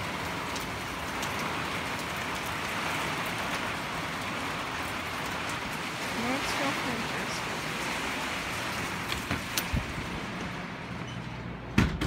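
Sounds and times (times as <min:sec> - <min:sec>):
heavy rain pouring: 0:00.0 - 0:11.8.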